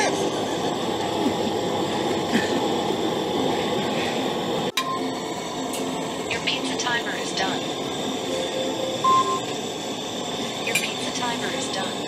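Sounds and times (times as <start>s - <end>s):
camp stove burners hissing: 0.0s - 12.0s.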